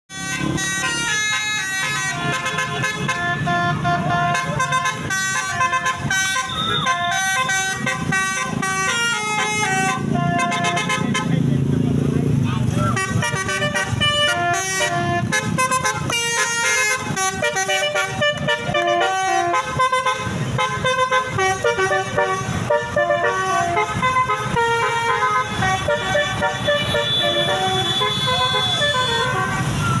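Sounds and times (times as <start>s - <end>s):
bus horn playing a fast tune: 0.1s - 11.4s, 12.9s - 30.0s.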